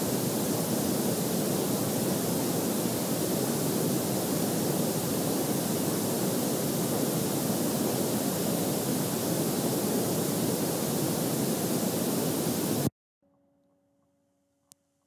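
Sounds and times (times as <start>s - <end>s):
static hiss: 0.0s - 12.9s.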